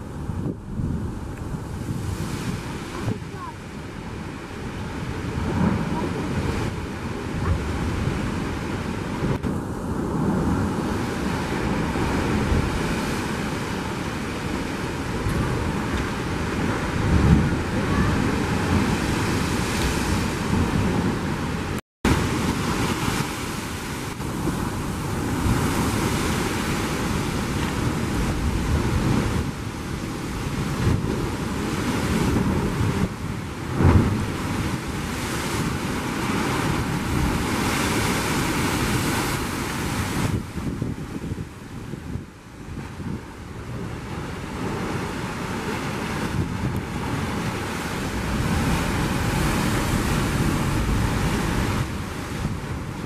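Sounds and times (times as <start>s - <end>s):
sea surf in rock chasm: 0.0s - 53.0s
wind rumbling on microphone: 0.0s - 53.0s.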